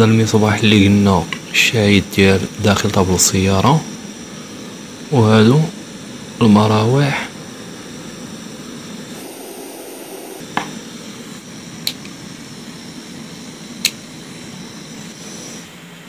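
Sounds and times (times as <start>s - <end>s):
cooling fans whirring: 0.0s - 16.0s.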